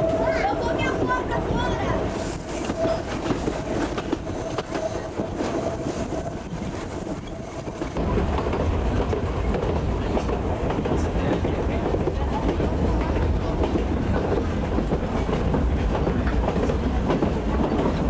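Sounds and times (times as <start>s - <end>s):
steam train running: 0.0s - 18.0s.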